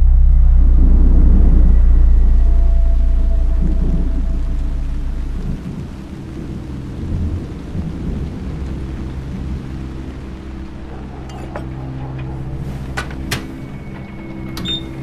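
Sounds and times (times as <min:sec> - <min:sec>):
deep rumble: 0:00.0 - 0:15.0
low rumbling drone: 0:00.0 - 0:15.0
steady low tones: 0:00.0 - 0:15.0.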